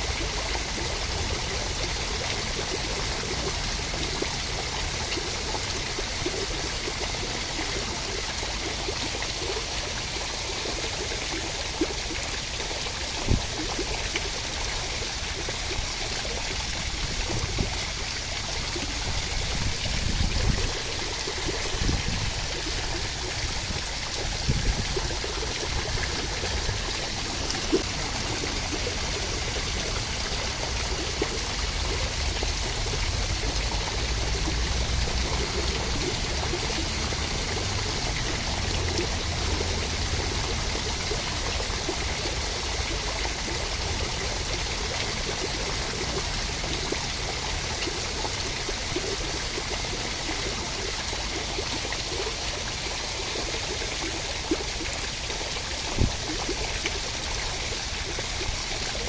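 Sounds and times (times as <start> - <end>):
steady rain: 0.0 - 59.0
water splashes: 0.0 - 59.0
water trickling: 0.0 - 59.0.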